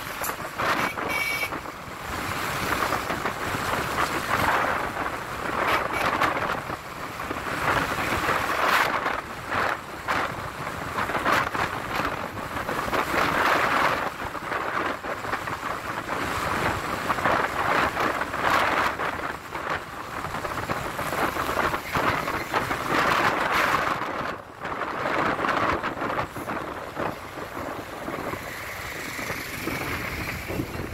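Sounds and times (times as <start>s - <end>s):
road and traffic noise: 0.0s - 30.9s
wind buffeting microphone: 0.3s - 30.9s.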